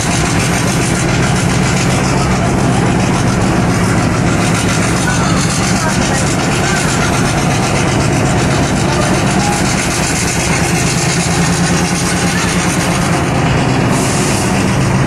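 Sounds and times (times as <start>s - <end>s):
low train drone: 0.0s - 15.0s
wheels on rails: 0.0s - 15.0s.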